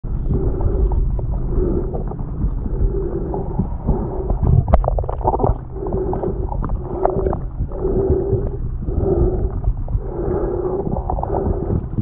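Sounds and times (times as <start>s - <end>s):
muffled underwater rumbling: 0.0s - 12.0s
water swishes: 0.0s - 12.0s.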